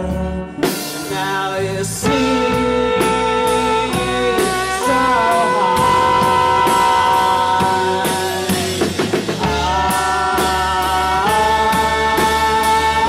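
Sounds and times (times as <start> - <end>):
live rock band playing: 0.0 - 13.0
drum hits: 2.0 - 13.0.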